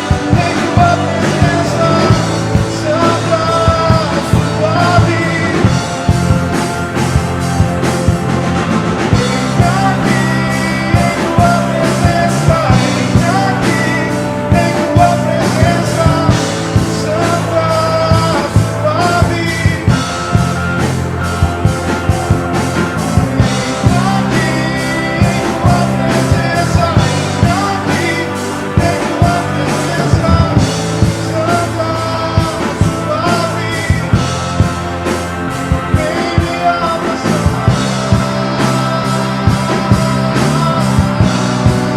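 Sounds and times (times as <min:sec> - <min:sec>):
live band playing: 0:00.0 - 0:41.9
person singing: 0:00.0 - 0:41.9
steady drum beat: 0:00.0 - 0:41.9.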